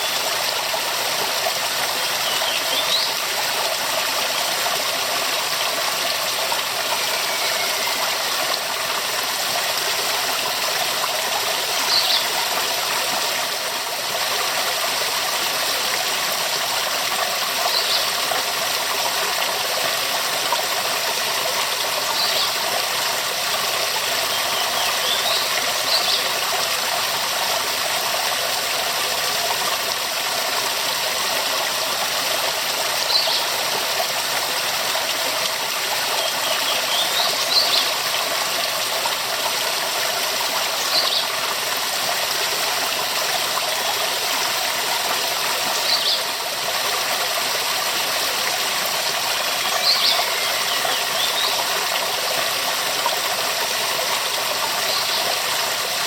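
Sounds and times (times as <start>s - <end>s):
waterfall rushing: 0.0s - 19.6s, 20.3s - 56.0s.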